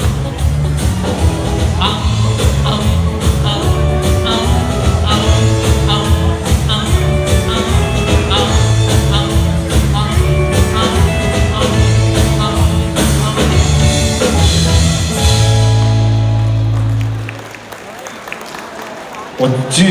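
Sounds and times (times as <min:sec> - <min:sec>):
electric guitars: 0:00.0 - 0:17.9.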